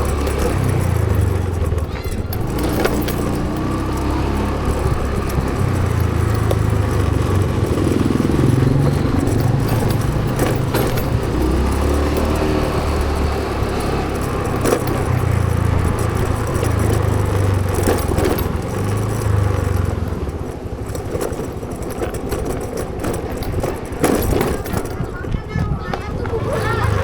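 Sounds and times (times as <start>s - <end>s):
clicks and rattles: 0.0s - 27.0s
motorcycle engine running: 0.0s - 27.0s.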